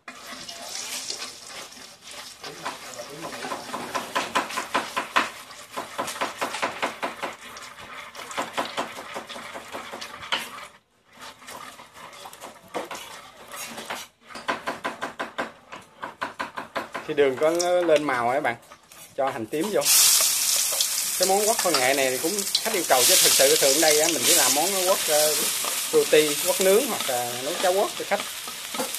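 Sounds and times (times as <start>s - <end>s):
light sizzle: 0.0s - 14.4s, 17.4s - 28.9s
chopsticks scraping metal wok: 0.0s - 14.6s, 17.3s - 28.9s.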